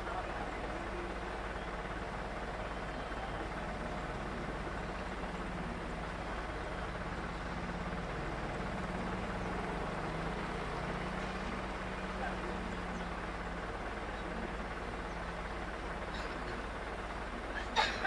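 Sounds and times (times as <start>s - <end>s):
aircraft engines running: 0.0s - 18.0s.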